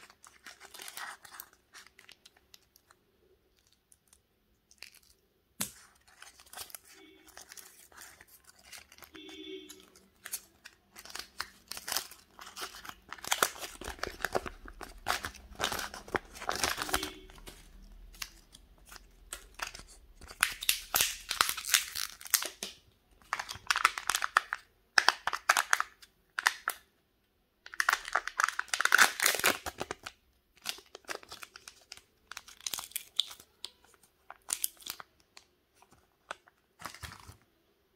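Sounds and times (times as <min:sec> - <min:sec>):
foil wrapper crinkling and tearing: 0:00.0 - 0:26.8, 0:27.7 - 0:37.4.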